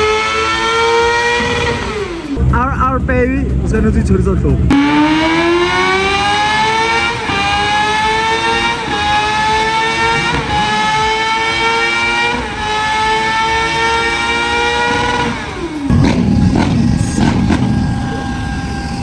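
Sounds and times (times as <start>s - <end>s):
motorcycle engine at full throttle: 0.0s - 19.0s.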